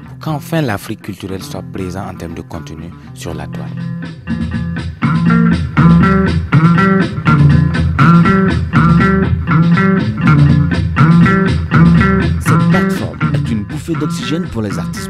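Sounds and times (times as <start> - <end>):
steady bass line: 0.0 - 15.0
plucked string phrase: 1.4 - 15.0.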